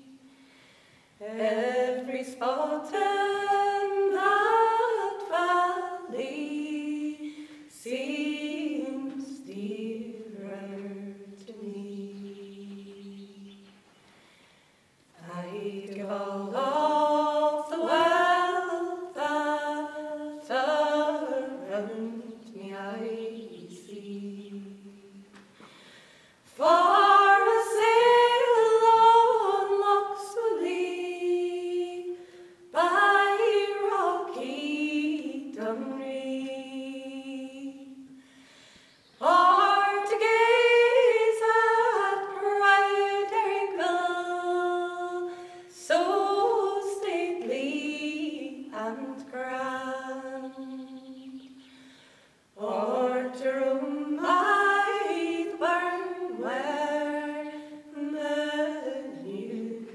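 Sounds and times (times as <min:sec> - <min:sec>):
women singing in harmony: 0:01.2 - 0:13.7, 0:15.2 - 0:25.5, 0:26.5 - 0:38.2, 0:39.2 - 0:51.6, 0:52.6 - 0:59.9.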